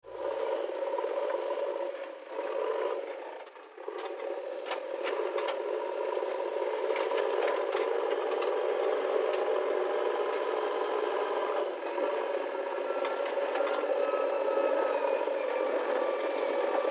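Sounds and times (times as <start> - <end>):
diesel engine running: 0.1 - 16.9.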